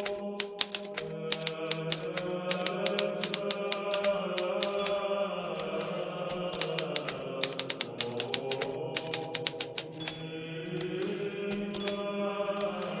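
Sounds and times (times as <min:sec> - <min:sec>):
typewriter keys striking: 0:00.0 - 0:13.0.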